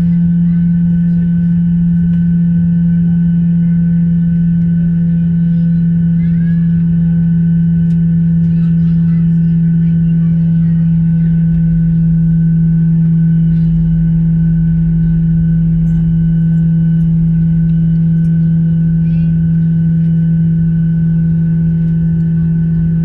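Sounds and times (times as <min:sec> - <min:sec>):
higher engine tones: 0:00.0 - 0:23.0
jet engines idling: 0:00.0 - 0:23.0.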